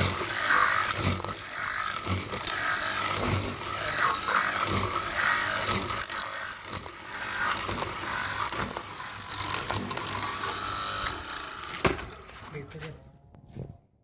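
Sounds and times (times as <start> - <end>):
cutting machine rattling: 0.0 - 12.7.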